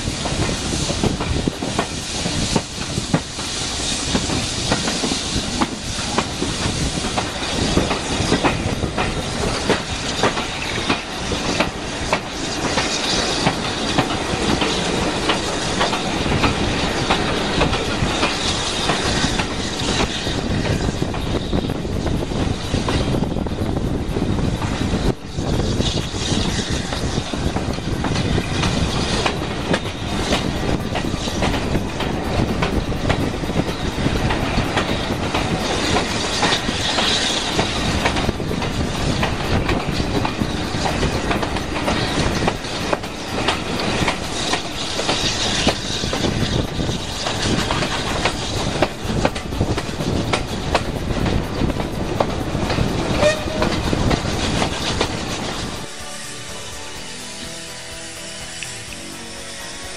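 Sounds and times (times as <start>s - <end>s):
train wheels clacking over joints: 0.0s - 59.9s.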